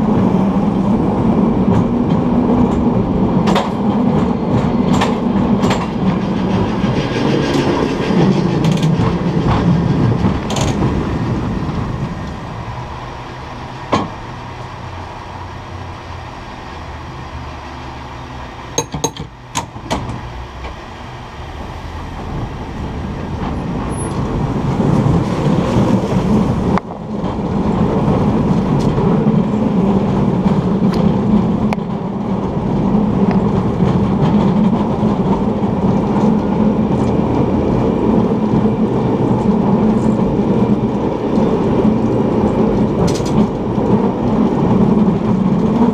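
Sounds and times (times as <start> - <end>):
cable car wheels rumbling on rails: 0.0 - 45.9.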